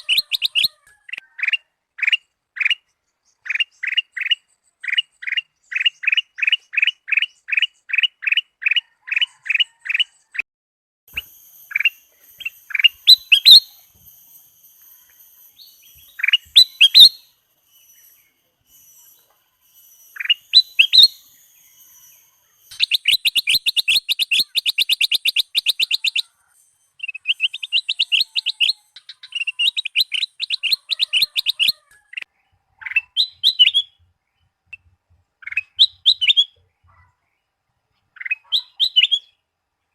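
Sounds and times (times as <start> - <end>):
bulbul singing: 0.0 - 8.5, 11.1 - 36.6, 38.0 - 39.4.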